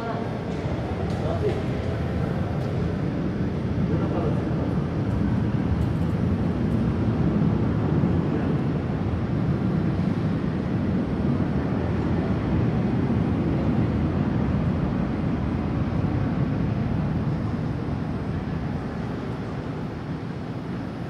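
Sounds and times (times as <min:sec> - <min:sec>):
jet engines roaring on takeoff: 0:00.0 - 0:21.0.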